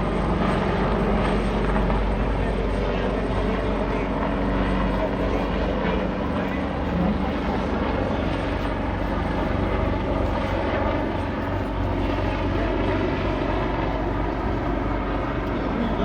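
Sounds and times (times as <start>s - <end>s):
helicopter rotor beating: 0.0s - 16.0s.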